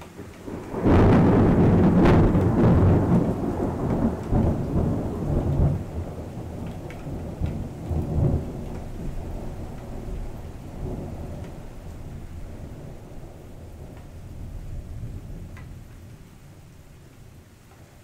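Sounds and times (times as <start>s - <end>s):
steady rain: 0.0s - 18.0s
rolling thunder: 0.2s - 17.5s.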